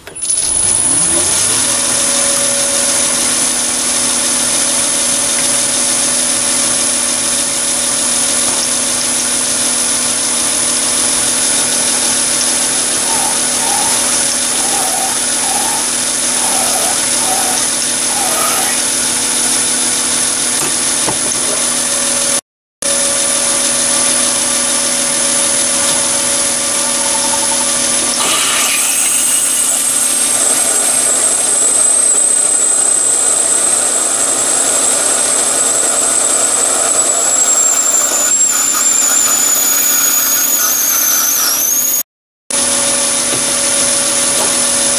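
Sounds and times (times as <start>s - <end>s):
lathe motor whine: 0.0s - 42.0s
high-pitched drill whine: 0.1s - 21.0s, 21.6s - 44.9s.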